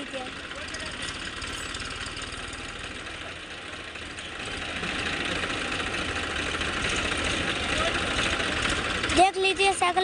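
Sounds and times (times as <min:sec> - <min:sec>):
diesel tractor engines running: 0:00.0 - 0:10.0.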